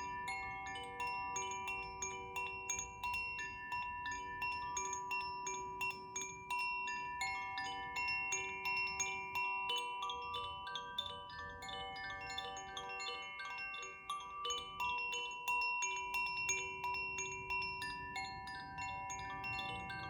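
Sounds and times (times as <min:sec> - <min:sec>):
chimes ringing: 0:00.0 - 0:20.0.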